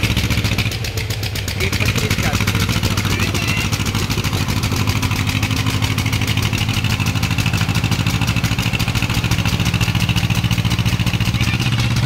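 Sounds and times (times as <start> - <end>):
tractor diesel engines chugging: 0.0 - 12.0.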